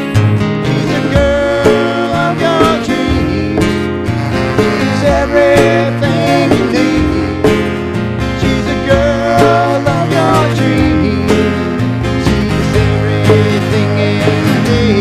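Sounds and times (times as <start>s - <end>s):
hand drum: 0.0s - 15.0s
strummed acoustic guitar: 0.0s - 15.0s
man singing: 0.6s - 15.0s.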